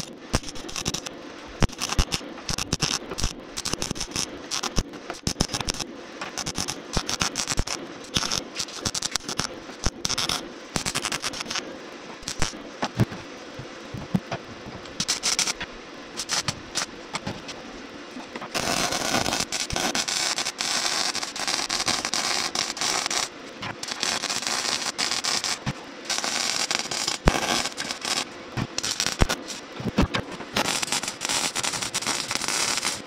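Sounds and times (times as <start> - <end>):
arc welding crackle: 0.0 - 13.1, 14.9 - 17.2, 18.4 - 33.0.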